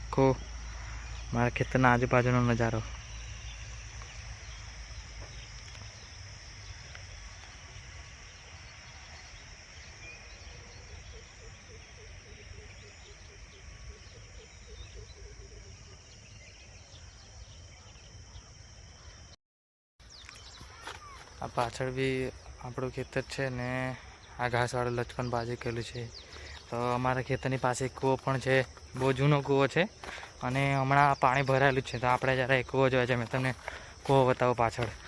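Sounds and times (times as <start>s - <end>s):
repeated bird calls: 0.0s - 19.3s, 20.0s - 35.0s
insects chirring: 0.0s - 19.4s, 20.0s - 35.0s.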